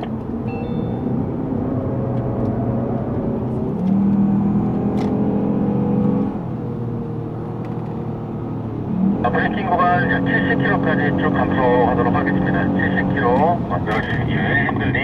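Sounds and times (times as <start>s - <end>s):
car engine pulling: 0.0s - 15.0s.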